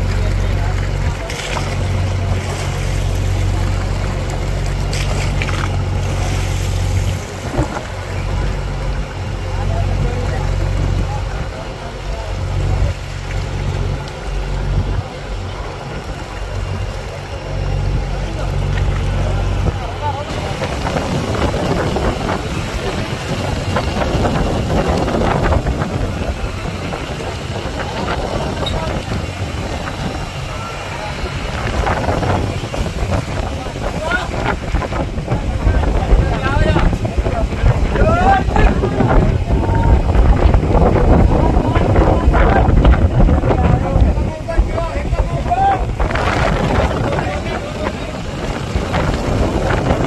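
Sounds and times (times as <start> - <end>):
boat engine running: 0.0 - 50.0
choppy sea washing on hull: 0.0 - 50.0
wind: 0.0 - 50.0.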